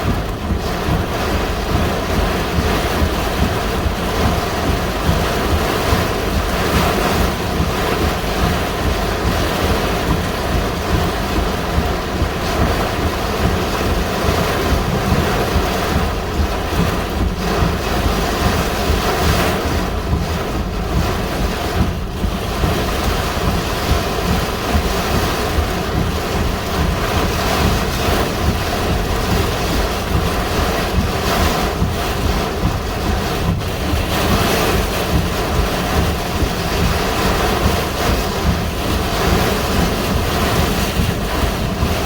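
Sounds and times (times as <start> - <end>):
gusty wind buffeting microphone: 0.0 - 42.0.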